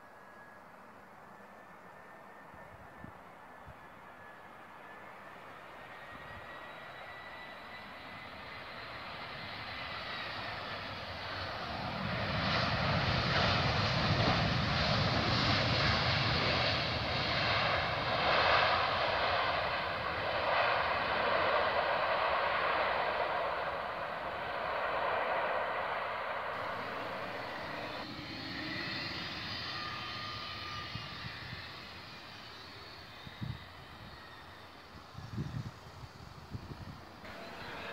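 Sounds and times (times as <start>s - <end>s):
high turbine whine: 0.0s - 37.9s
jet engines roaring: 1.9s - 37.9s.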